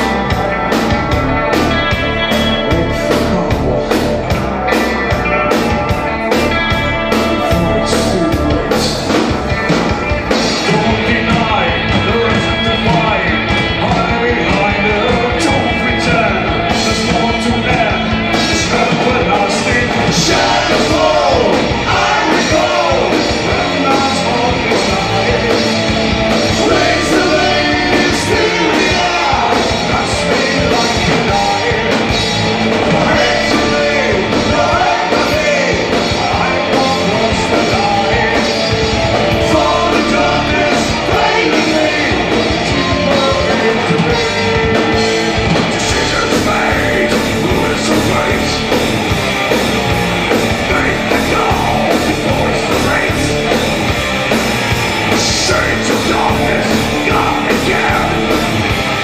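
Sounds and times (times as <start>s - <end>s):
vocalist singing: 0.0s - 54.0s, 54.9s - 59.0s
bass guitar: 0.0s - 59.0s
distorted electric guitars: 0.0s - 59.0s
drum kit: 0.0s - 59.0s.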